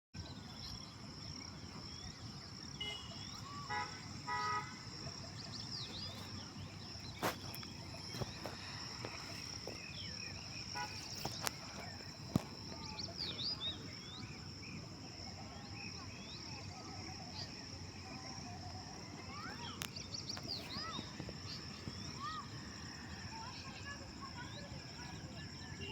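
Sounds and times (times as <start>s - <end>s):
insects droning: 0.2s - 25.9s
birds chirping: 0.3s - 25.9s.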